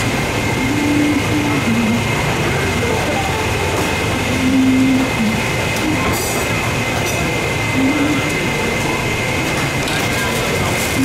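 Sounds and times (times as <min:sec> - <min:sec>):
constant high whine: 0:00.0 - 0:11.0
loud mechanical rumble and hiss: 0:00.0 - 0:11.0.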